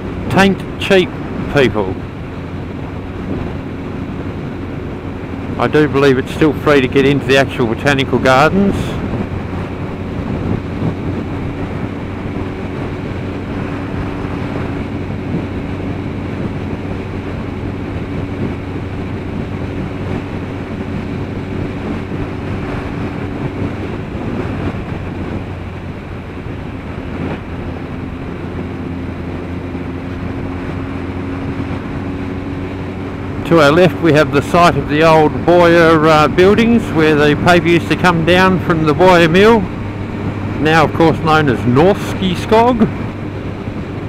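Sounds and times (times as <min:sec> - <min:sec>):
motorcycle engine cruising: 0:00.0 - 0:44.0
wind rush on microphone: 0:00.0 - 0:44.0.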